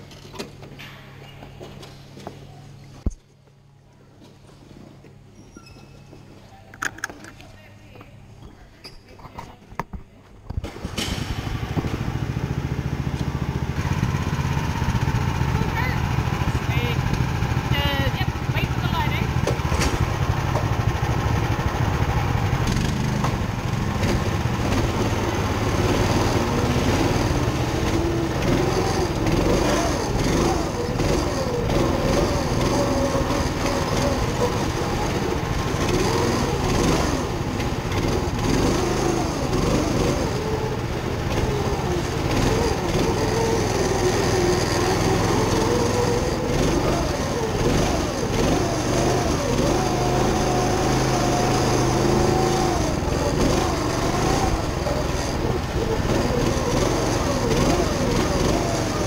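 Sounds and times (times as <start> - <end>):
kart engine revving: 10.6 - 59.0.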